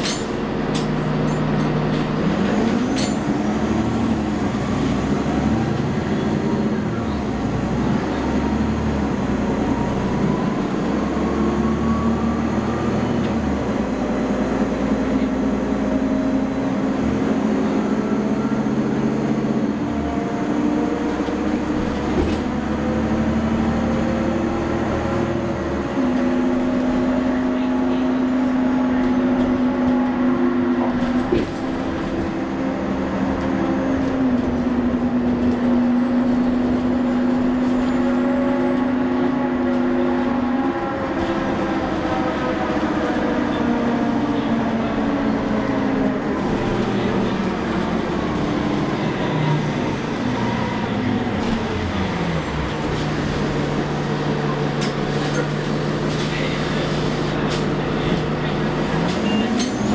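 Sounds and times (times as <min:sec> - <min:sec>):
bus engine drone with whining tones: 0:00.0 - 0:59.9.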